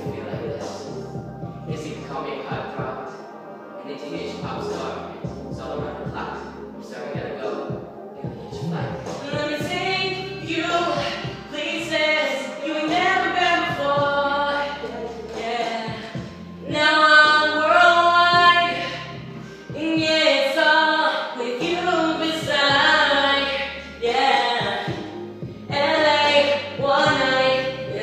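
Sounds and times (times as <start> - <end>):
young man singing pop melody: 0.0 - 3.2, 3.8 - 28.0.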